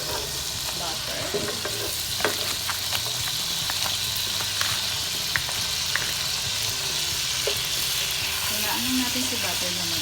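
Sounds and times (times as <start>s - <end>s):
butter sizzling in a frying pan: 0.0s - 10.0s.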